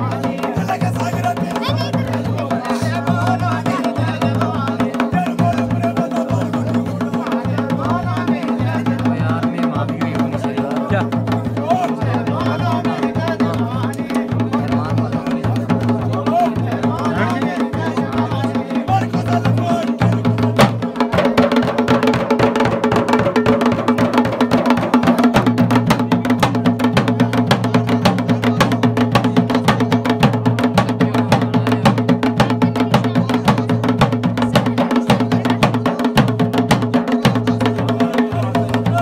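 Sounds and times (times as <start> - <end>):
drums in fast beat: 0.0 - 39.0.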